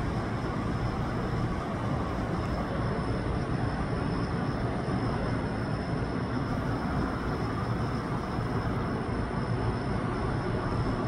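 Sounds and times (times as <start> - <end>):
faint high whine: 0.0 - 11.0
low outdoor rumble: 0.0 - 11.0.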